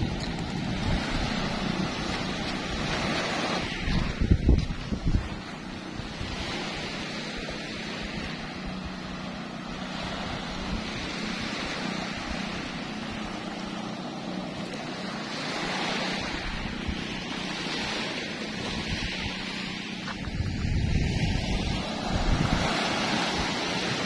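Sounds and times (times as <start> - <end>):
waves washing onto sandy shore: 0.0 - 24.0
wind buffeting microphone: 0.0 - 24.0.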